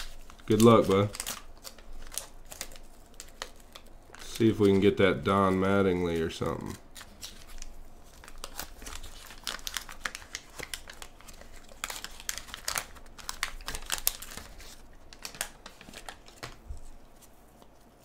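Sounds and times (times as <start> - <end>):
wax paper wrapper crinkling: 0.0 - 18.0.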